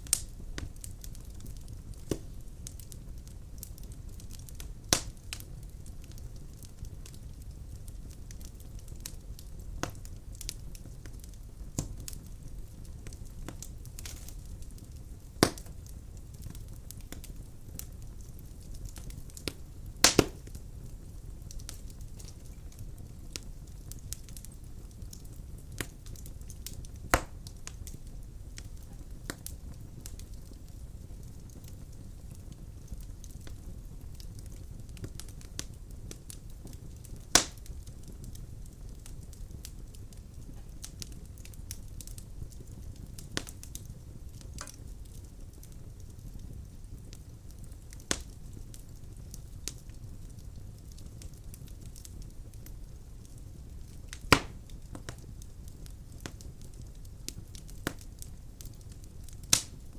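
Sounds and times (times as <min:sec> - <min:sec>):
sharp pops from fire: 0:00.0 - 0:59.9
wood fire crackling: 0:00.0 - 0:59.9.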